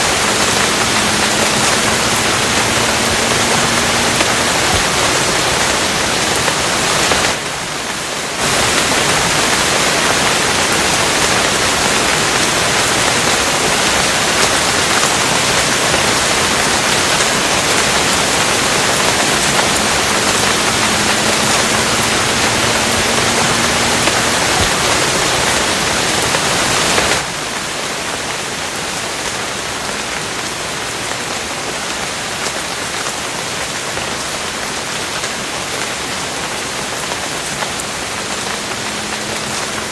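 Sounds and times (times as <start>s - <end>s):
steady rain downpour: 0.0s - 39.9s.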